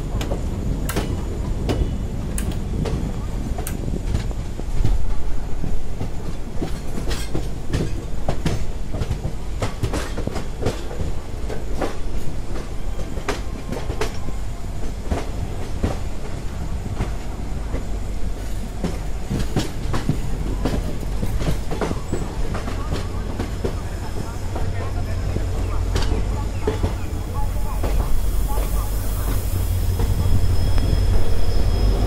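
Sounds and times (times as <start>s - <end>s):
low train rumble: 0.0s - 32.0s
train wheels clattering over rail joints: 0.1s - 27.0s.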